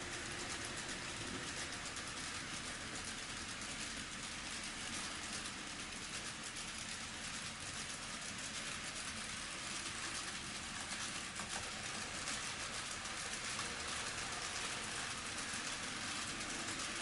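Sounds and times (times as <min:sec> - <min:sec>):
model train wheels whirring: 0:00.0 - 0:17.0.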